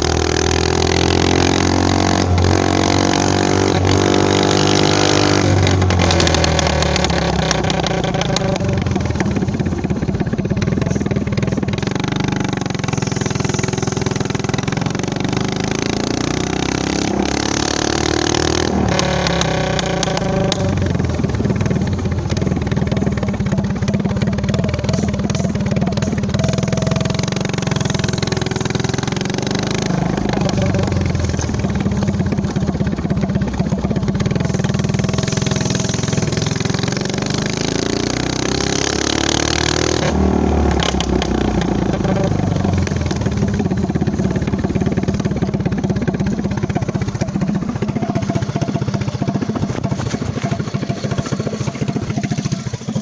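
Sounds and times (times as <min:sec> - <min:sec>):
minibike engine revving: 0:00.0 - 0:53.0.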